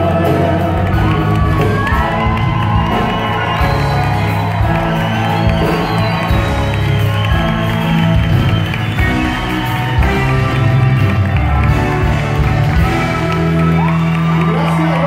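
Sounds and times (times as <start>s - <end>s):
live band playing: 0.0s - 15.0s
audience cheering and whooping: 0.8s - 15.0s.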